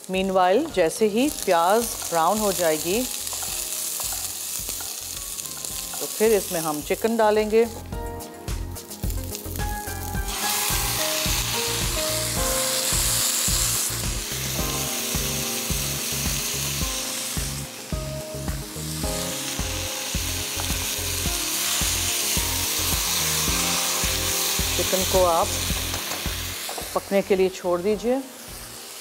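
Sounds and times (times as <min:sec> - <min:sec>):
chicken sizzling in hot oil: 0:00.0 - 0:07.8, 0:08.9 - 0:29.0.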